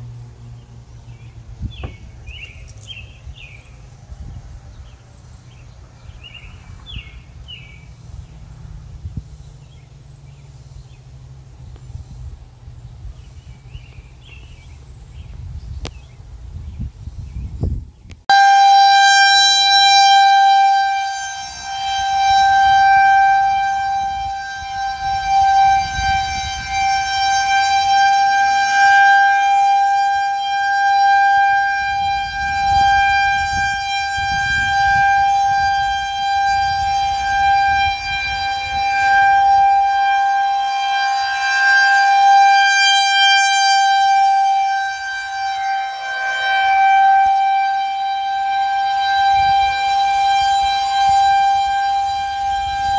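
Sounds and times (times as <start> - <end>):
warning siren steady tone: 0.0 - 52.9.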